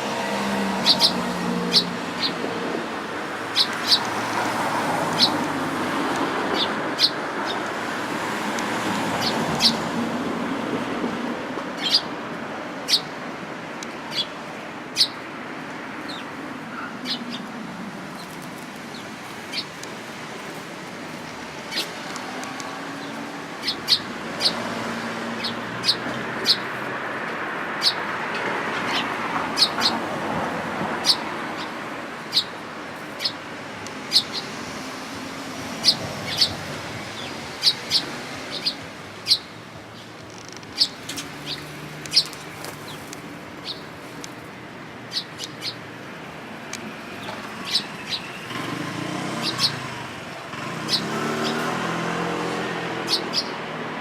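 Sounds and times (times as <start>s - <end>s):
sparrows chirping: 0.0s - 10.2s, 11.6s - 54.0s
road traffic: 0.0s - 54.0s.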